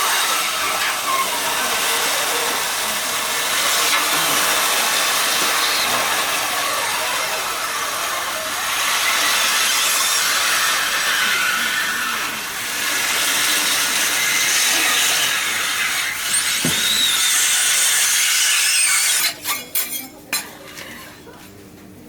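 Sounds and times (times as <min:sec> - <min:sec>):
hiss of grill cooking: 0:00.0 - 0:19.2.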